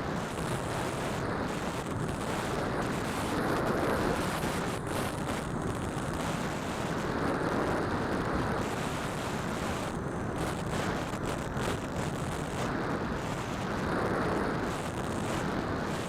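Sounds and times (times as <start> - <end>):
airflow rush on microphone: 0.0 - 16.0.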